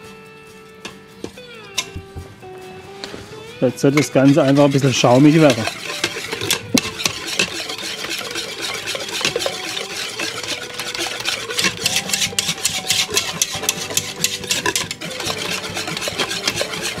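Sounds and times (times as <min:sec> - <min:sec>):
utensil scraping a bowl: 0:03.0 - 0:17.0.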